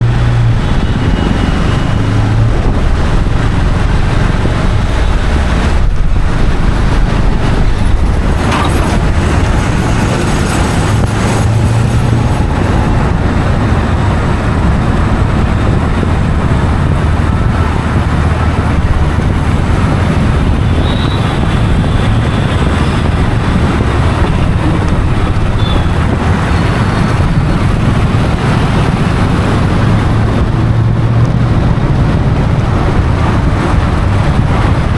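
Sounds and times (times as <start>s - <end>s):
motor vehicle rumble: 0.0s - 34.9s
road traffic noise: 0.0s - 34.9s.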